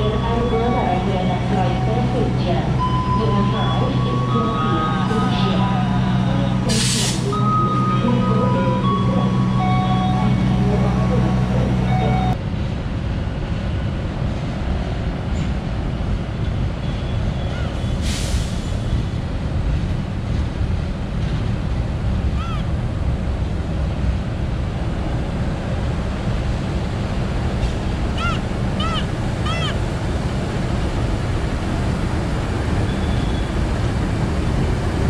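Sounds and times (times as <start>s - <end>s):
diesel locomotive rumbling: 0.0s - 35.0s.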